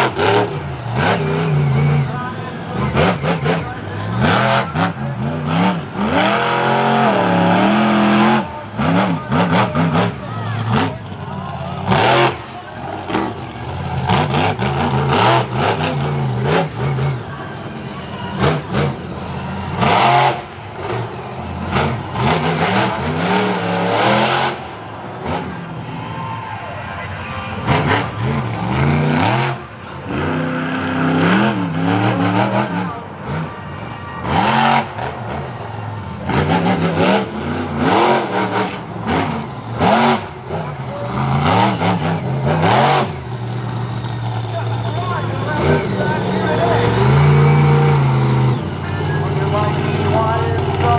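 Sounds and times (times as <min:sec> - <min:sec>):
racing engines revving: 0:00.0 - 0:50.9.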